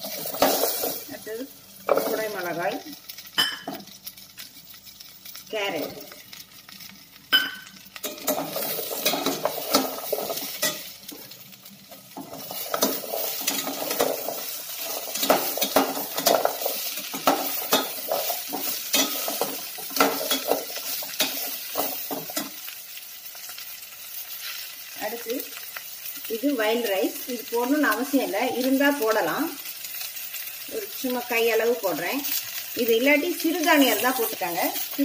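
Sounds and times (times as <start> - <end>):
vegetables sizzling in oil: 0.0 - 35.0.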